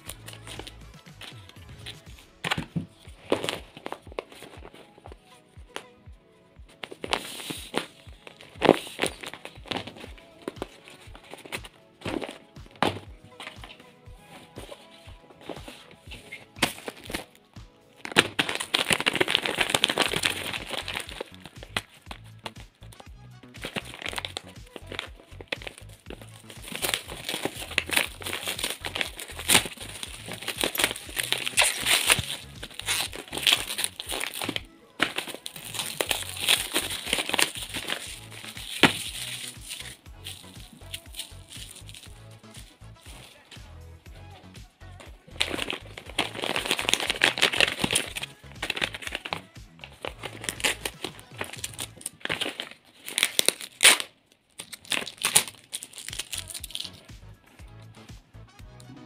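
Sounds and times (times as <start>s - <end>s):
plastic film crinkling: 0.0s - 6.0s, 6.8s - 43.8s, 45.0s - 57.1s
background music with beat: 0.0s - 54.0s, 54.9s - 59.0s.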